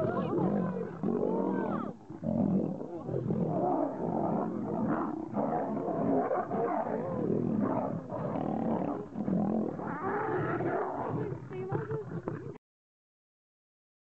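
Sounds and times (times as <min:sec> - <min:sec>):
lions growling and snarling: 0:00.0 - 0:12.6.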